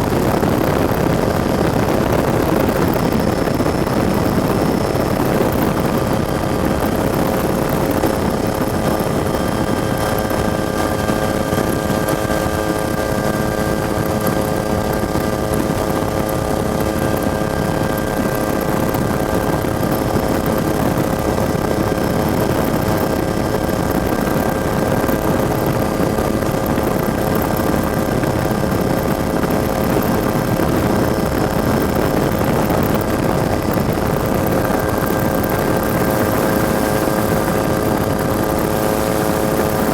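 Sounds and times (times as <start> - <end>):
helicopter rumble: 0.0 - 39.9
helicopter turbine whine: 0.0 - 39.9.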